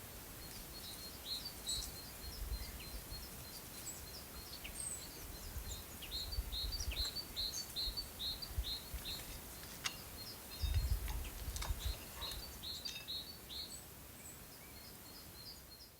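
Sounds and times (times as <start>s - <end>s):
songbird chirping: 0.4s - 15.9s.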